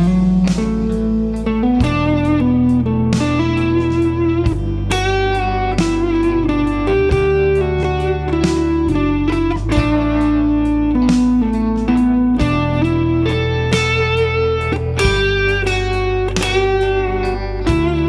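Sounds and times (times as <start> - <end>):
backing track with bass and chords: 0.0 - 18.0
electric guitar lead melody: 0.0 - 18.0.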